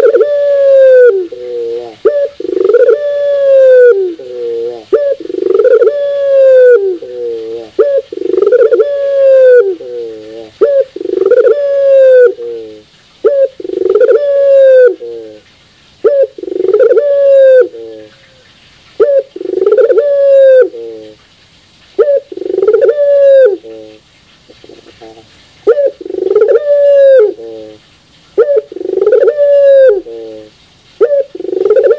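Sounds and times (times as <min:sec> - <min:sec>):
dove cooing: 0:00.0 - 0:21.3, 0:21.9 - 0:31.9.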